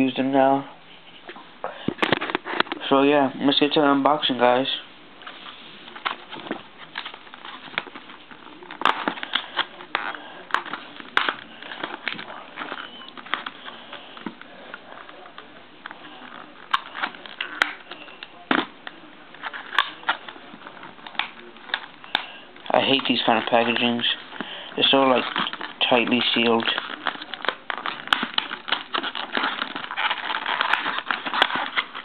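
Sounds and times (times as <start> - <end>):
plastic blister pack crackling: 5.2 - 32.0.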